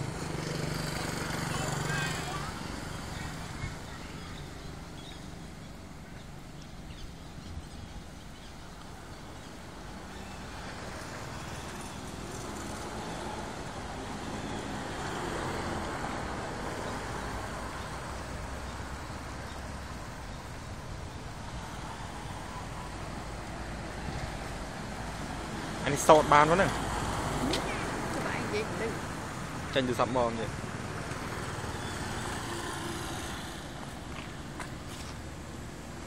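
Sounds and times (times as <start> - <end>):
vehicle passing: 0.0 - 5.5, 9.8 - 36.0.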